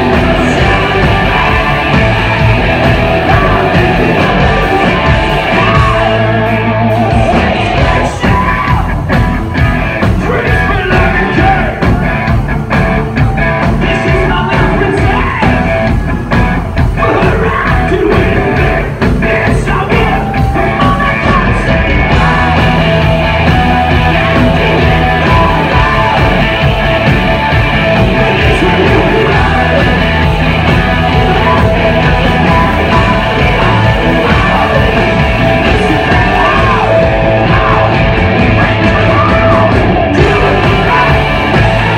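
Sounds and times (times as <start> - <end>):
hard rock band playing live: 0.0 - 41.9.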